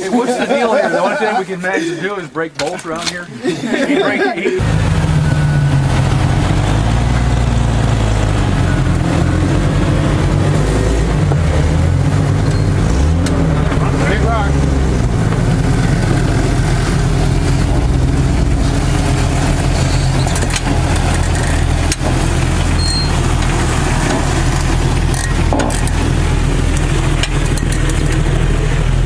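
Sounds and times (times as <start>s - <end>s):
engine running at low revs: 4.6s - 29.0s.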